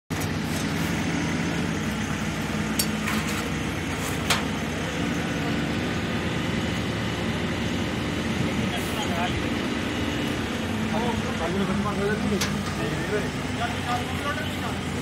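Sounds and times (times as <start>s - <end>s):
diesel engine running: 0.1s - 15.0s.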